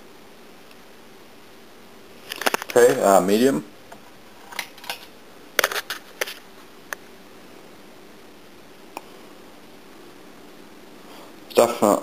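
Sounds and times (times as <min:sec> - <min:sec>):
ceiling fan running: 0:00.0 - 0:12.0.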